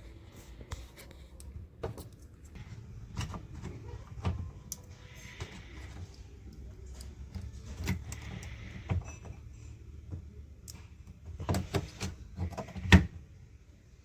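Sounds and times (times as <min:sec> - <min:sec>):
clicks and knocks of parts: 0:00.7 - 0:13.2.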